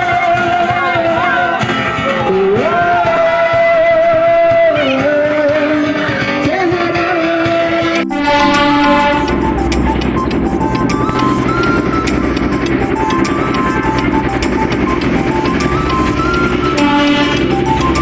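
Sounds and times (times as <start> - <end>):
different music: 0.0 - 18.0
music accompaniment: 0.0 - 18.0
person singing long wavering notes: 0.0 - 18.0.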